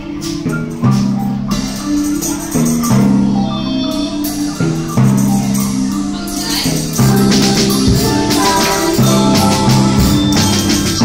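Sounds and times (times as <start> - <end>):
marimbas and xylophone playing: 0.0 - 11.0.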